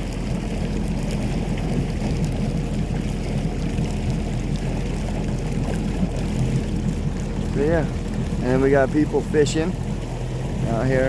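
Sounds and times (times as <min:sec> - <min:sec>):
boat motor humming: 0:00.0 - 0:11.0
water washing: 0:00.0 - 0:11.0.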